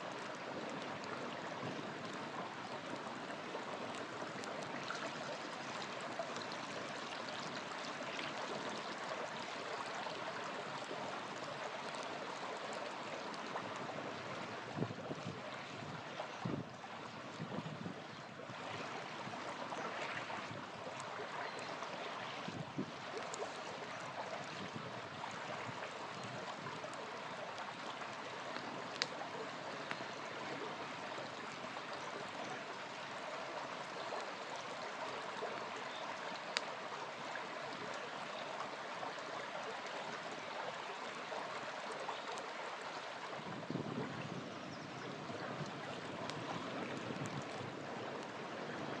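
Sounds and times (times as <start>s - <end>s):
campfire crackling: 0.0s - 43.7s, 45.4s - 49.0s
small river flowing: 0.0s - 49.0s.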